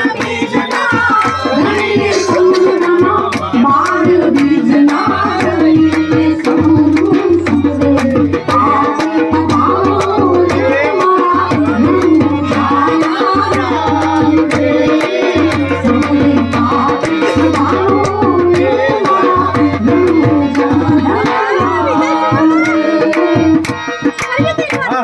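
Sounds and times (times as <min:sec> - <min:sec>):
drum beating fast rhythm: 0:00.0 - 0:25.0.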